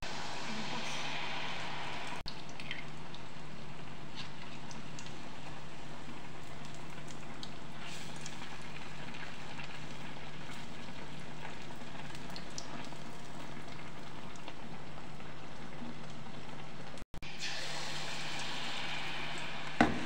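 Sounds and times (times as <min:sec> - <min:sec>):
batter sizzling in hot oil: 0:00.0 - 0:20.0.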